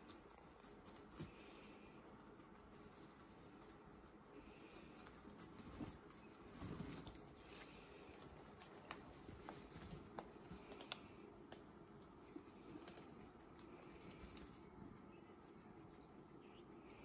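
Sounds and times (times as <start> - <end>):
guinea pigs chewing: 0.0 - 17.0.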